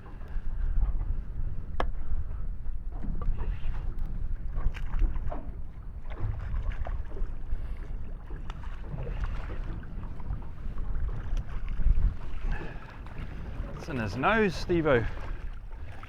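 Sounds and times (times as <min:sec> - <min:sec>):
wind rumbling on microphone: 0:00.0 - 0:16.0
water slapping: 0:03.0 - 0:16.0.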